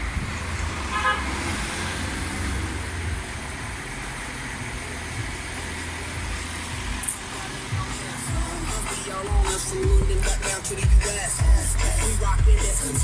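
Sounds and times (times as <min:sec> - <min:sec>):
road noise: 0:00.0 - 0:13.0
car engine running: 0:01.5 - 0:13.0.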